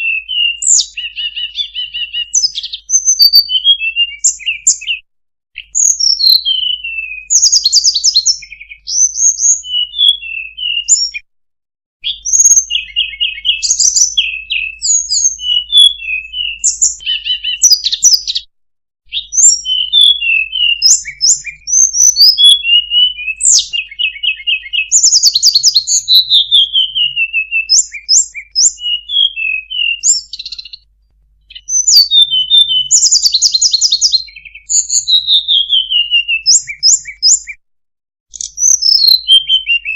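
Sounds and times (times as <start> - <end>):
recorded bird song: 0.0 - 11.3, 12.0 - 37.6, 38.3 - 39.9.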